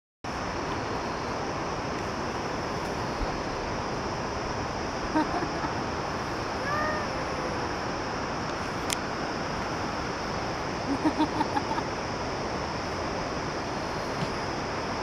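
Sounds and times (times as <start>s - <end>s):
rushing background noise: 0.3s - 15.0s.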